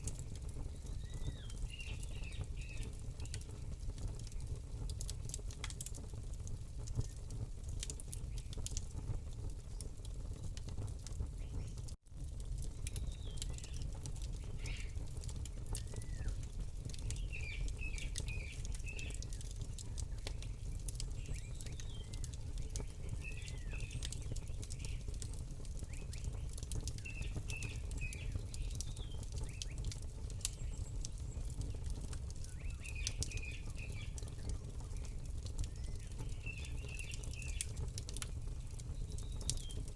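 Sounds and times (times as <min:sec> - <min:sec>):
small birds chirping: 0:00.0 - 0:05.8, 0:12.6 - 0:39.9
campfire crackling and popping: 0:00.0 - 0:39.9.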